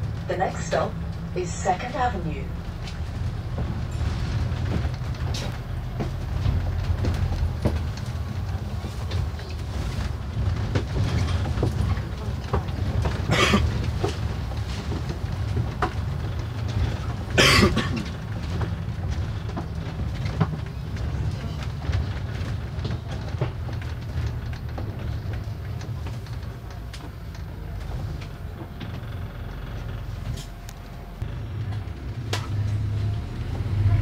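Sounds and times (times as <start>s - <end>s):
bus engine drone: 0.0s - 34.0s
bodywork clicks and rattles: 1.9s - 33.0s.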